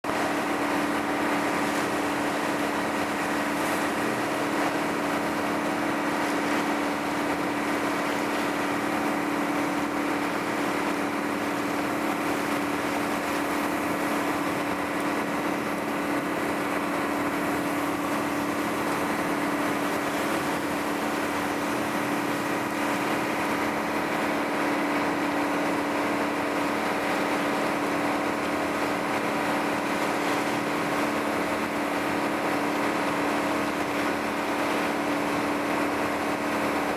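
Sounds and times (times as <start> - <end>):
motorboat engine droning: 0.0 - 36.9.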